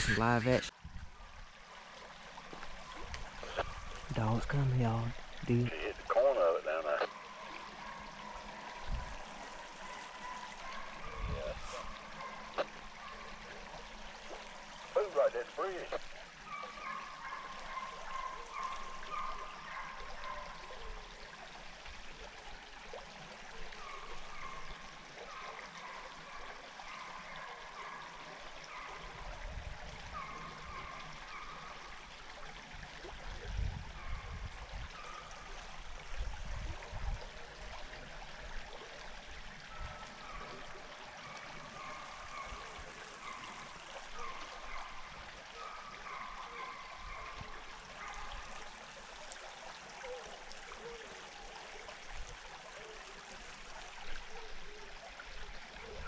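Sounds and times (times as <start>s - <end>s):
creek trickling: 0.0s - 56.0s.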